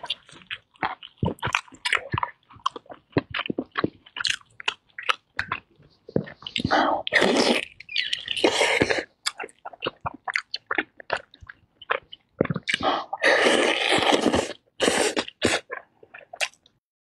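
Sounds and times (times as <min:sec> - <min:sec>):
chewing with wet mouth clicks: 0:00.0 - 0:13.2, 0:13.8 - 0:16.8.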